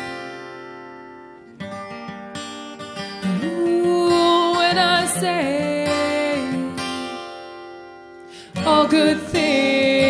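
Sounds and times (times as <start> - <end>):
acoustic guitars strumming: 0.0 - 10.0.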